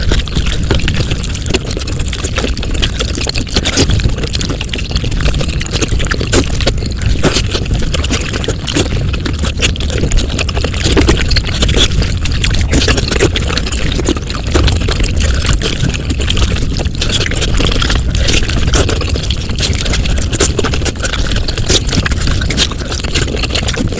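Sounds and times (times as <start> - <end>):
sped-up eating sounds: 0.0 - 23.9.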